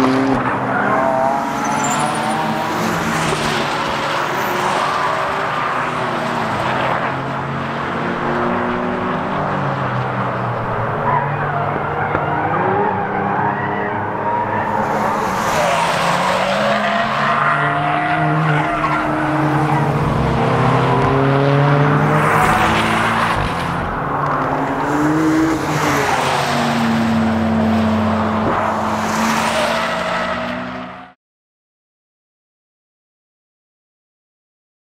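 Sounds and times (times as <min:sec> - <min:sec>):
sports car engines passing: 0:00.0 - 0:31.1.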